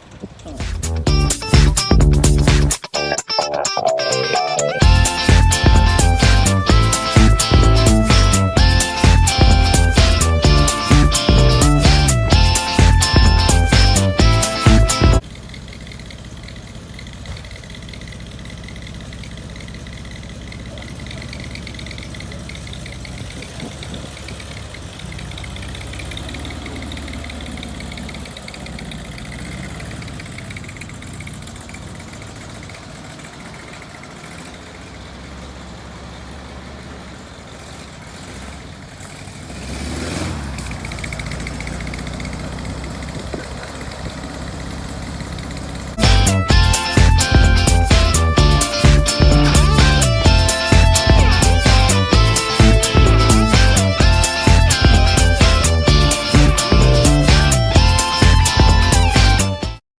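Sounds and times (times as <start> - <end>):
car engine idling: 0.0 - 59.8.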